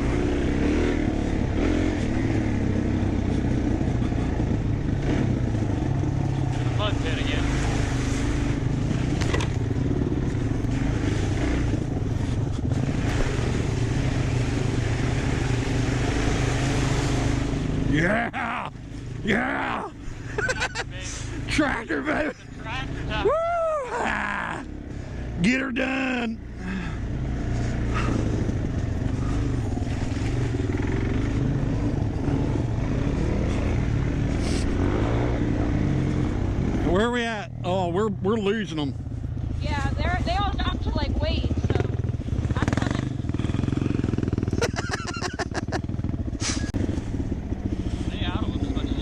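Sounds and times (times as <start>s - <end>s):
dirt bike engine running: 0.0s - 23.3s, 24.0s - 49.0s.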